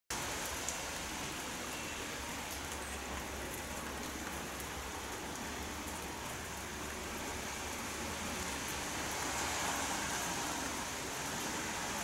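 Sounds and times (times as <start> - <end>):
steady rain falling: 0.1 - 12.0.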